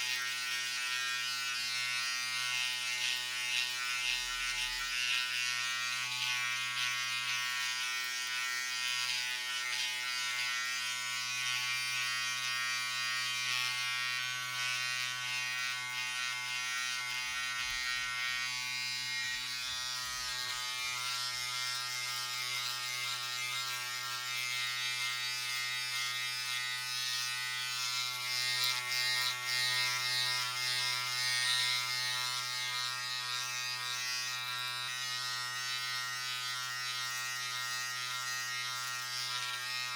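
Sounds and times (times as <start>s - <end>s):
electric razor buzzing: 0.0s - 39.9s.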